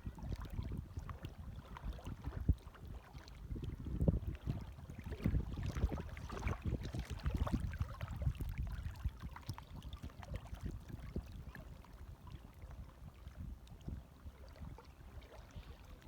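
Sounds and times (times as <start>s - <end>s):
small waves lapping and splashing: 0.0s - 16.0s.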